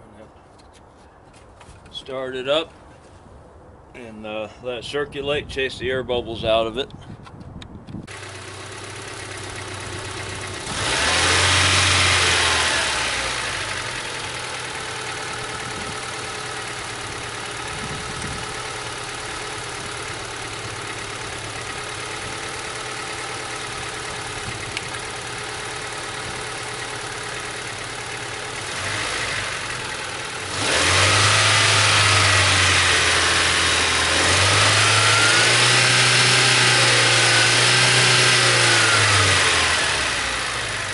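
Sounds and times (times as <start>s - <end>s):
car engine revving and idling: 8.0s - 40.9s.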